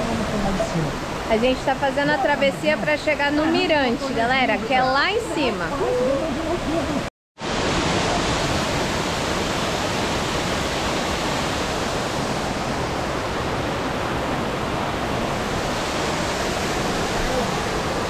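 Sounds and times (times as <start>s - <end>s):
loud rush of falling water: 0.0s - 4.7s, 6.4s - 18.0s.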